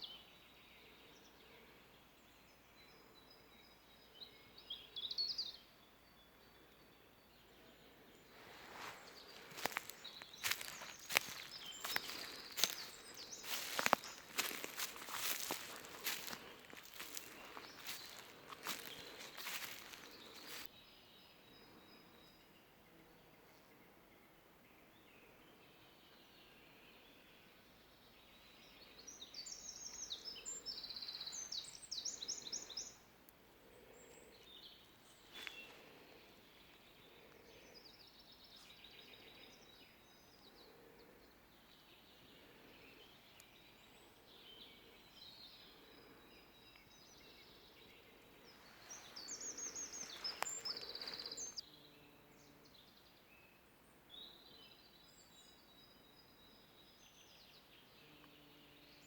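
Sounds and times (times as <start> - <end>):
songbirds trilling: 0.0 - 22.7, 23.4 - 59.0.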